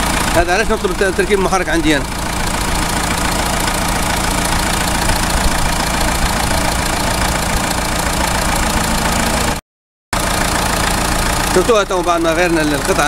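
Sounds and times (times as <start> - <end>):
diesel engine idling: 0.0 - 9.6, 10.2 - 13.0.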